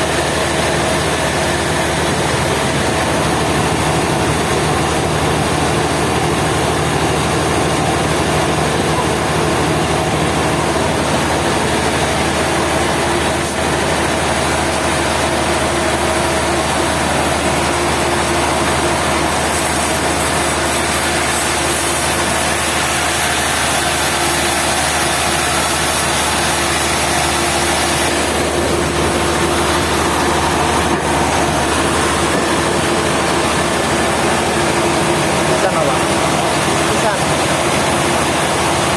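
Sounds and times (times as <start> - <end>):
motor-driven machine humming: 0.0 - 38.9.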